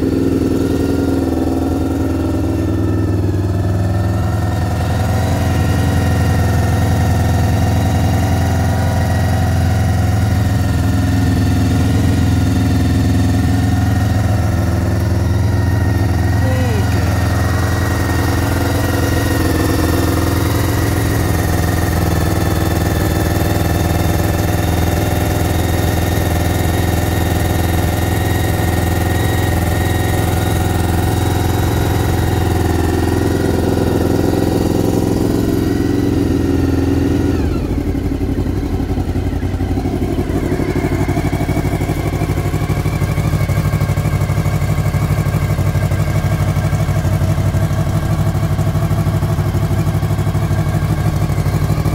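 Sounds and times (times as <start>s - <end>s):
motorcycle engine idling: 0.0s - 51.9s.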